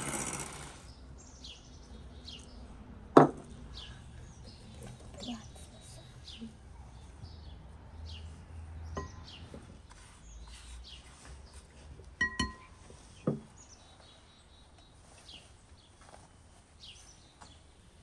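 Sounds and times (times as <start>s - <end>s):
small birds chirping: 0.0s - 2.8s, 3.5s - 18.0s.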